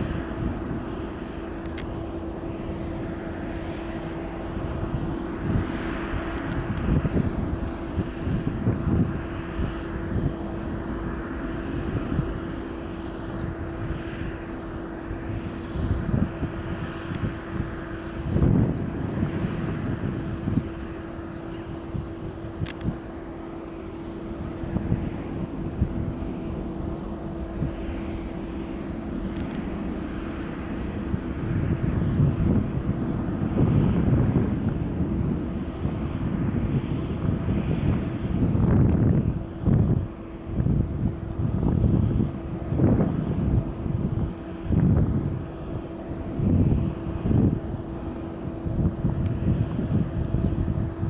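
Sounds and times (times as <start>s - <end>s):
gusty low rumbling: 0.0s - 51.0s
jet engines droning: 0.0s - 51.0s.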